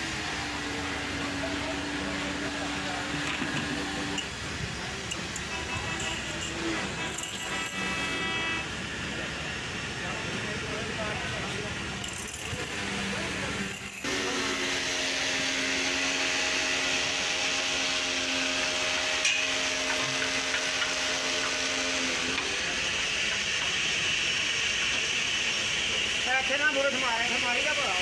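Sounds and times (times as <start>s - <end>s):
electric motor hissing: 0.0s - 9.3s, 11.9s - 27.9s.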